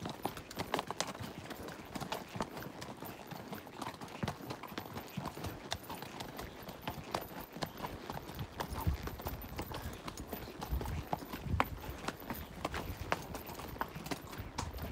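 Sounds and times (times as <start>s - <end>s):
horse hooves clopping on rocky trail: 0.0s - 14.9s.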